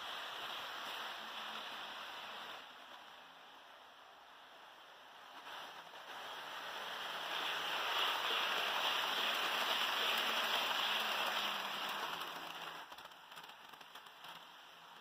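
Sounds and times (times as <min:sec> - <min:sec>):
model train wheels rattling on rails: 0:00.0 - 0:03.4, 0:05.1 - 0:15.0.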